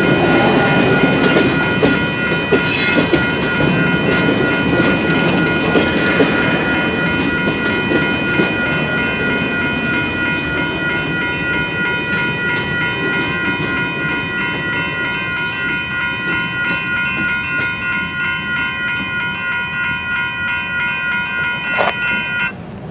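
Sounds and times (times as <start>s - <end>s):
railroad crossing bell ringing: 0.0s - 22.8s
train rumble: 0.0s - 22.9s.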